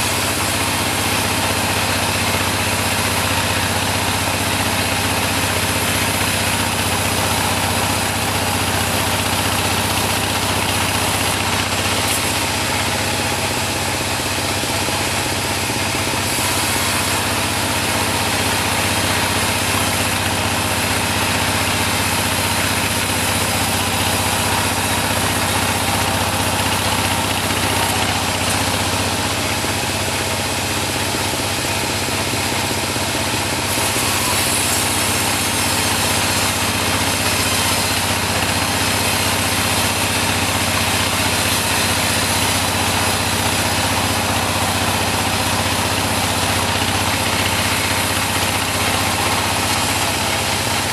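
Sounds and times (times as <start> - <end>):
bandsaw sawmill running: 0.0 - 50.9.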